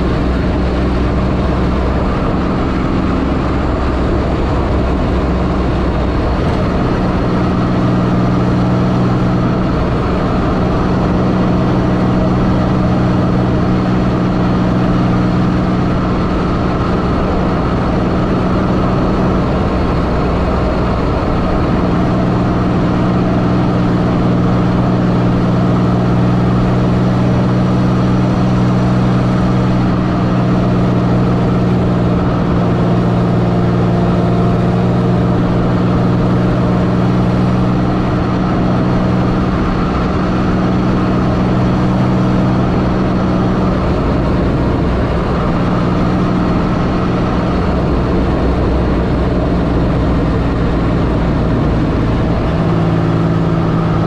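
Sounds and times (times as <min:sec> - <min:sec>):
car engine running: 0:00.0 - 0:54.0
road rumble: 0:00.0 - 0:54.0.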